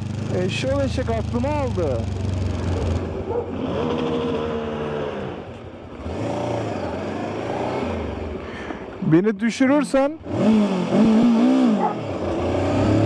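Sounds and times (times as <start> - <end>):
motorcycle engine rising and falling: 0.0 - 8.4, 10.2 - 13.0.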